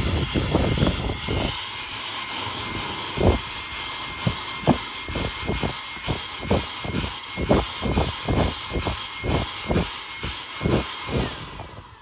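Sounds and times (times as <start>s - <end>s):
brush scrubbing carpet: 0.0s - 11.8s
vacuum cleaner motor whine: 0.0s - 12.0s.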